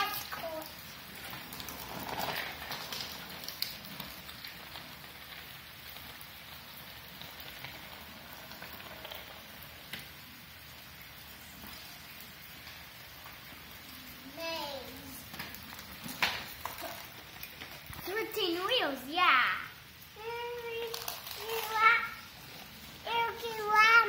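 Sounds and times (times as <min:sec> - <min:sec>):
heavy rain on concrete: 0:00.0 - 0:24.0.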